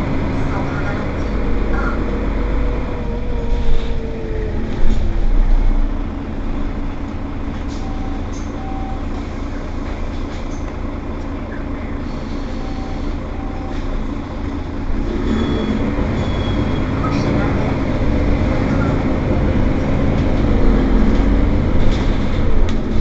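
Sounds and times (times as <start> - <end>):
bus engine drone: 0.0 - 23.0.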